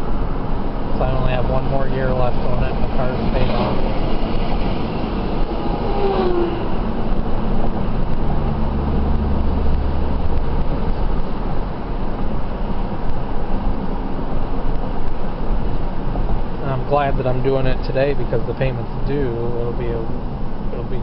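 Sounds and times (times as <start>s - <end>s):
car cabin road noise: 0.0s - 21.0s.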